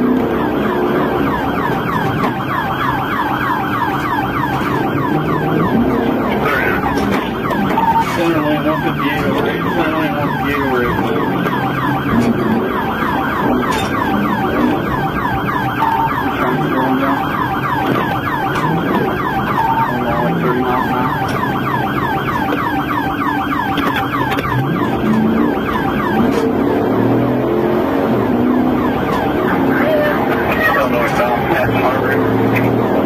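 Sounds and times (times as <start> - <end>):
car road and engine noise: 0.0 - 33.0
police siren yelping: 0.0 - 33.0.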